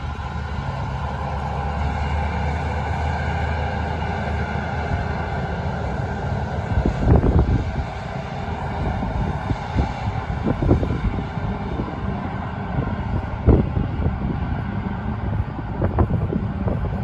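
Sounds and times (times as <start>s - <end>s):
harvester engine drone: 0.0s - 17.0s
wind rumble on microphone: 0.0s - 17.0s.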